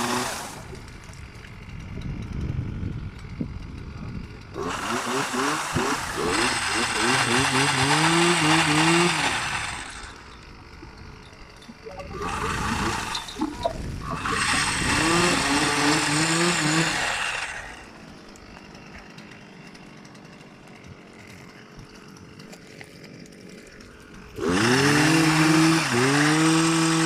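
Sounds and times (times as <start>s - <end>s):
small two-stroke engine revving: 0.0s - 27.0s.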